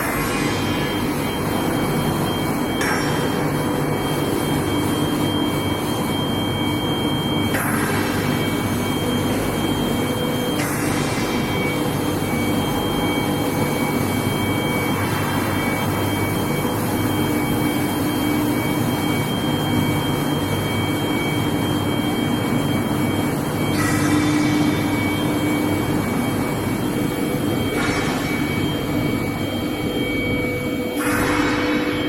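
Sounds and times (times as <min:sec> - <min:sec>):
high-pitched machine whine: 0:00.0 - 0:32.0.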